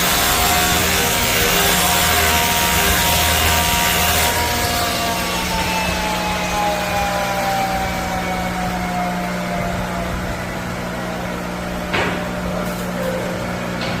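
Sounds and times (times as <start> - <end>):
buffing machine whining: 0.0 - 11.8.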